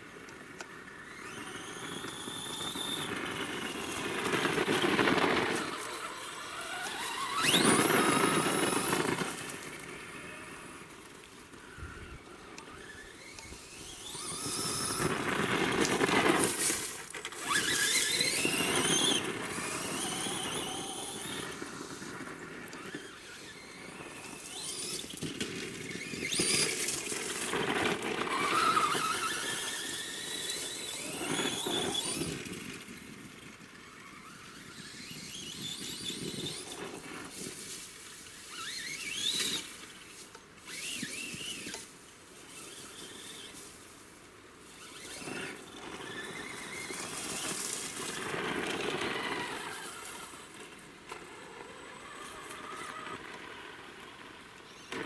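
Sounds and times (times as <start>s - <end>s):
toy truck electric motor whining: 0.5s - 55.0s.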